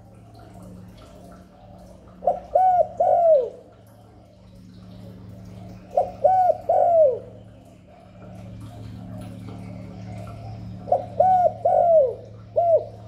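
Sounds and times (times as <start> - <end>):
dove cooing: 1.2 - 4.2, 5.0 - 13.0.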